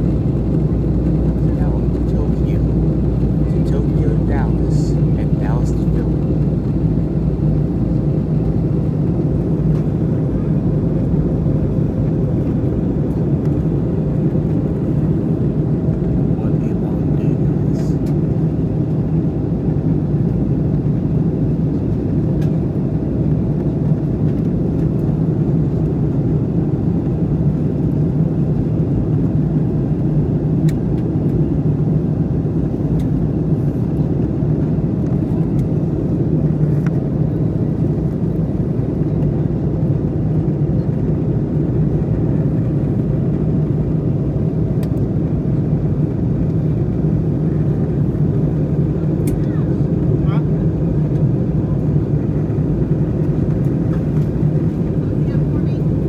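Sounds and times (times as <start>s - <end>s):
aircraft cabin engine roar: 0.0s - 56.0s.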